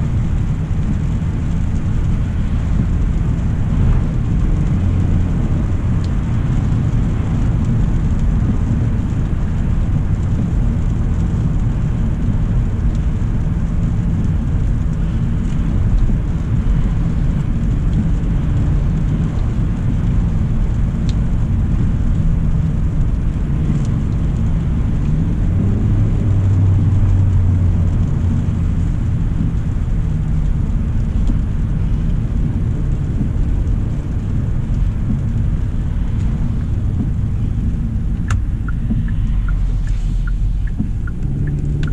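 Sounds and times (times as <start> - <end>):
car engine drone: 0.0 - 41.9
road and tyre rumble: 0.0 - 41.9.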